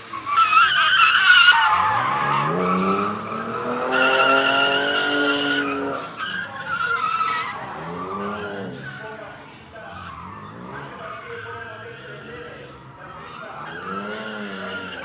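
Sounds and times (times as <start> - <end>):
car engine revving high: 0.0 - 15.0
tyres squealing: 0.0 - 15.0.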